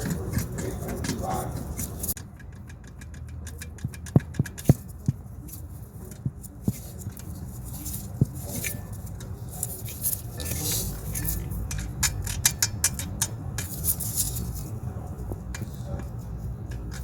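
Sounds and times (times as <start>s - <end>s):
sharp clicks and light knocks: 0.0s - 17.0s.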